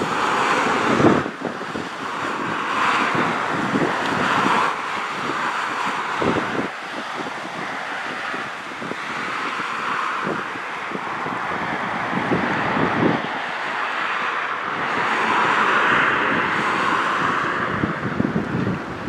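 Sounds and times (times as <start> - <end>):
light plane engine drone: 0.0 - 19.0
wind buffeting microphone: 0.0 - 19.0.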